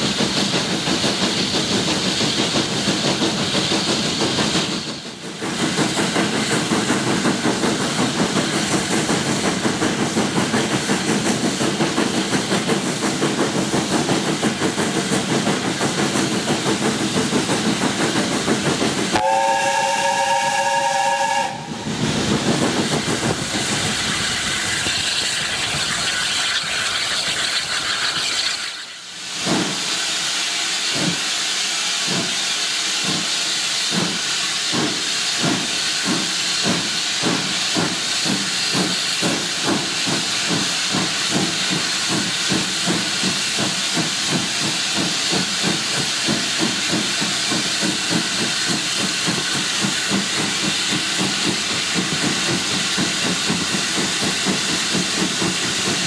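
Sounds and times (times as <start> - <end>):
steam hiss: 0.0 - 56.0
steam locomotive exhaust beats: 0.0 - 56.0.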